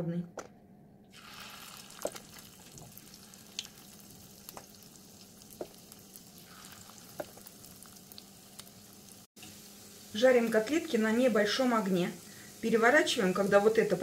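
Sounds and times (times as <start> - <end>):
batter sizzling in hot oil: 1.1 - 14.0.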